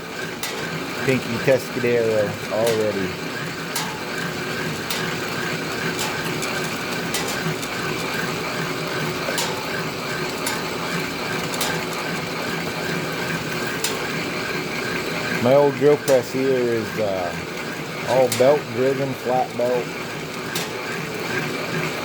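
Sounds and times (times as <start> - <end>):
drill press drilling steel: 0.0 - 22.0
light regular ticking: 0.2 - 22.0.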